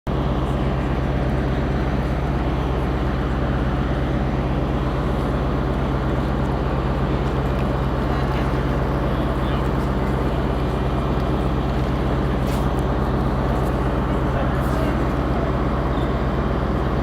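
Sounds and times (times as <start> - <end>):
diesel train engine idling: 0.1 - 17.0.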